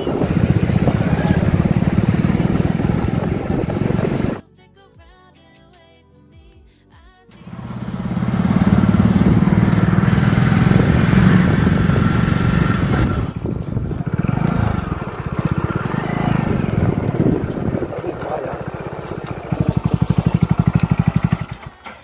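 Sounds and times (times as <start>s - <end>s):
motorcycle engine running: 0.0s - 4.4s, 7.4s - 22.0s
wind rushing: 0.0s - 4.4s, 7.8s - 21.5s.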